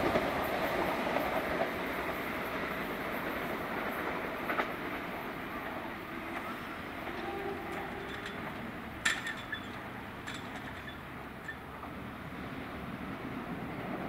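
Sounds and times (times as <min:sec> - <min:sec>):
electric train running on track: 0:00.0 - 0:14.0.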